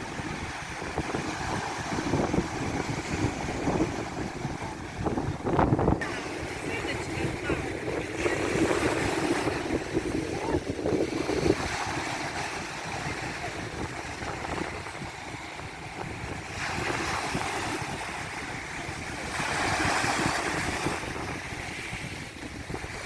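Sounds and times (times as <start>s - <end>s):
sea surf washing onto beach: 0.0s - 23.0s
wind buffeting microphone: 0.0s - 23.0s.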